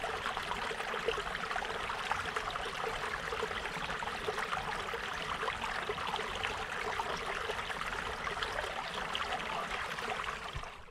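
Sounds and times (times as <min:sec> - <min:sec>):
small stream babbling: 0:00.0 - 0:10.9.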